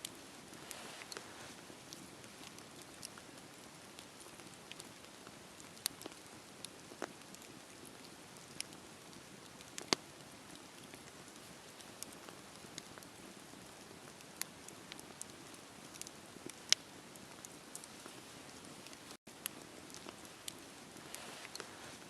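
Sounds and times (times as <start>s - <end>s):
wood bonfire crackling: 0.0s - 22.0s.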